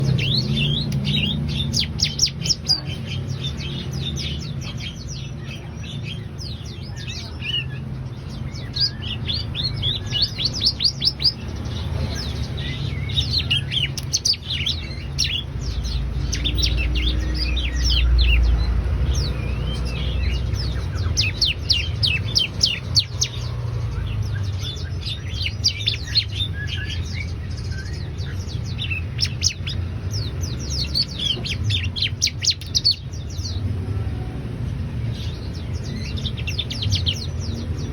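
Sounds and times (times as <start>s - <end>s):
bird singing sharp chirps: 0.0s - 37.9s.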